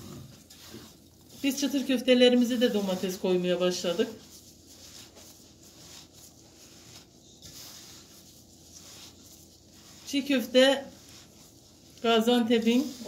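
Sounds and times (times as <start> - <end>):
grains scraping in metal bowl: 0.0 - 13.0.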